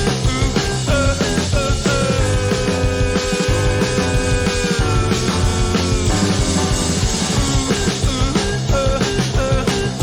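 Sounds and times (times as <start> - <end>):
drum beat: 0.0 - 10.0
rock band playing: 0.0 - 10.0.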